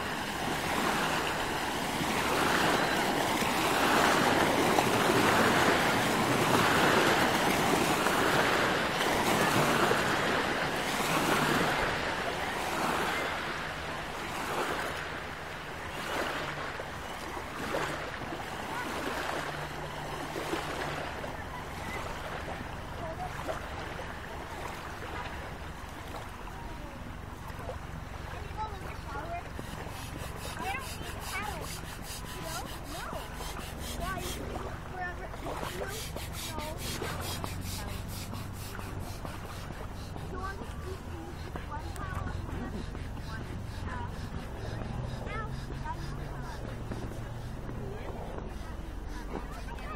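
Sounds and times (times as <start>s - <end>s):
lake waves washing onto stony shore: 0.0s - 16.7s, 17.6s - 49.9s.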